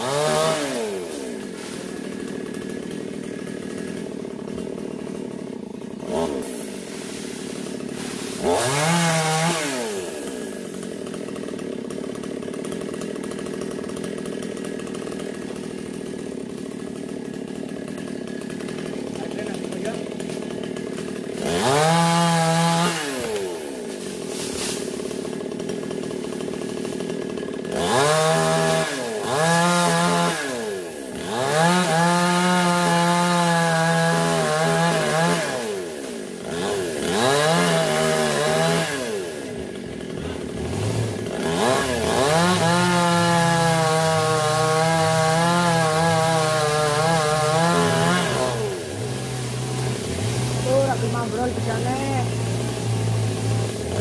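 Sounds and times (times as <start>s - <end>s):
chainsaw revving and cutting: 0.0s - 54.0s.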